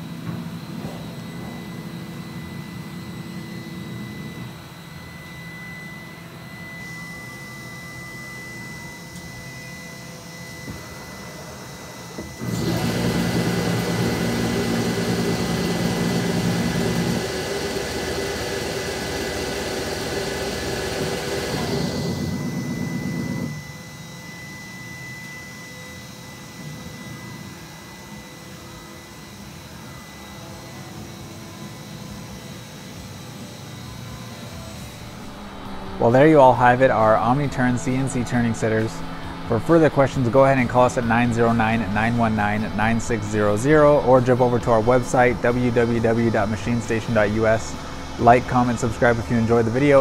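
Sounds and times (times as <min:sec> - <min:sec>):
machine shop motors humming: 0:00.0 - 0:50.0
loud motor whirring hiss: 0:05.0 - 0:50.0.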